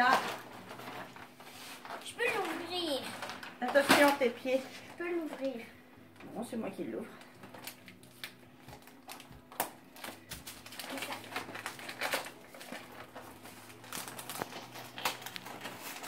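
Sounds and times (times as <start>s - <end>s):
wrapping paper tearing and crinkling: 0.0s - 5.4s, 7.2s - 16.0s.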